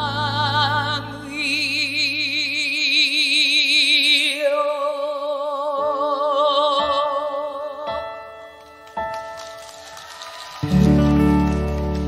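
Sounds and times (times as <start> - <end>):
soft musical accompaniment: 0.0 - 12.0.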